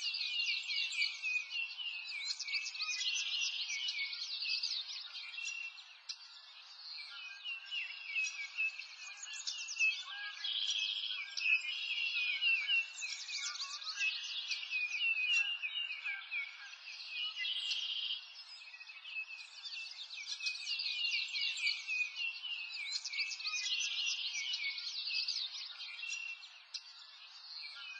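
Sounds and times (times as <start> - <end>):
birds chirping and singing: 0.0 - 27.9.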